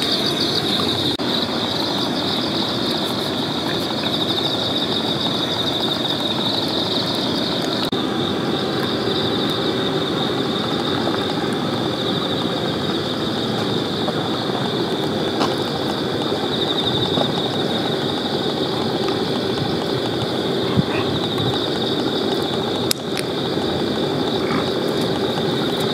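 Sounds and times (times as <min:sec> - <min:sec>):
constant low rumble: 0:00.0 - 0:25.9
insects chirring: 0:00.0 - 0:25.9.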